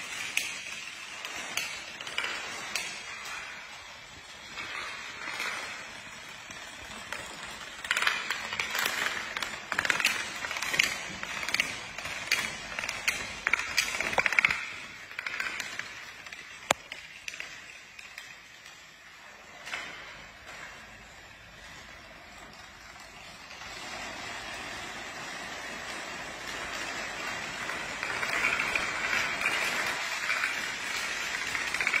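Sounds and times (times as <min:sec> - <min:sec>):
plastic dominoes toppling: 0:00.0 - 0:32.0.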